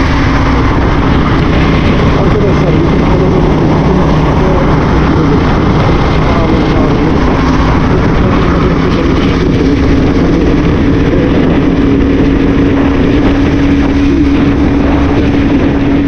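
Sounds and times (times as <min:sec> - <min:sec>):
motorcycle engine cruising: 0:00.0 - 0:16.0
wind and rain rumble on microphone: 0:00.0 - 0:16.0.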